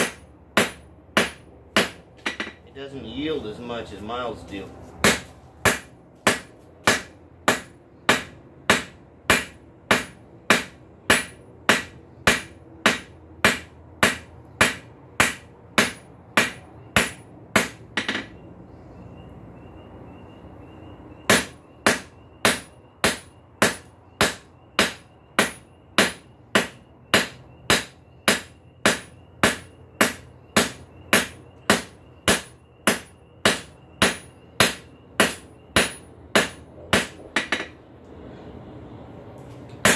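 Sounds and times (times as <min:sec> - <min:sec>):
hammer striking steel on anvil: 0:00.0 - 0:02.6, 0:05.0 - 0:18.4, 0:21.3 - 0:37.8.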